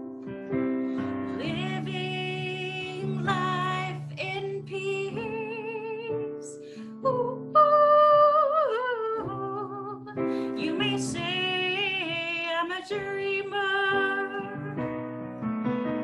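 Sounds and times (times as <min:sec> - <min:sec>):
woman singing slow song: 0:00.9 - 0:15.1.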